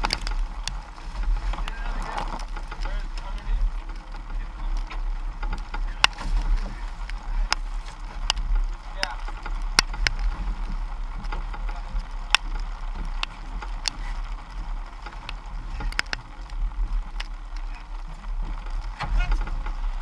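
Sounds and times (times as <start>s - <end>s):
boat engine rumble: 0.0s - 20.0s
sharp clicks and knocks: 0.0s - 20.0s.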